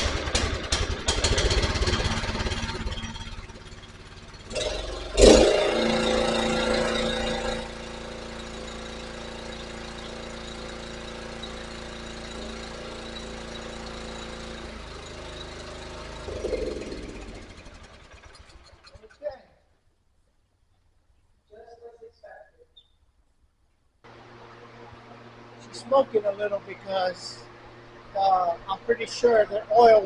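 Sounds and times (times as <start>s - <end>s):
pressure washer engine running: 0.0s - 19.2s, 24.1s - 30.0s.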